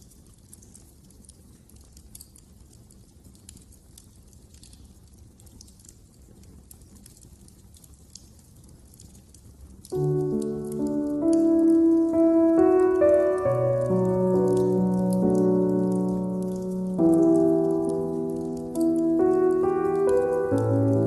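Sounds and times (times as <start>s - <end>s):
low rumble of burning logs: 0.0s - 21.0s
wood fire crackling: 0.0s - 21.0s.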